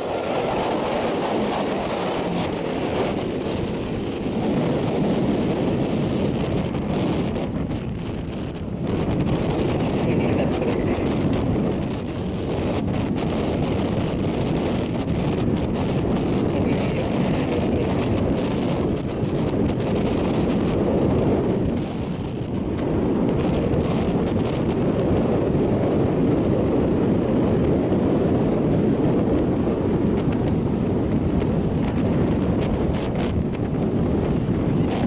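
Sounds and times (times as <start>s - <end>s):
wind blowing on microphone: 0.0s - 35.0s.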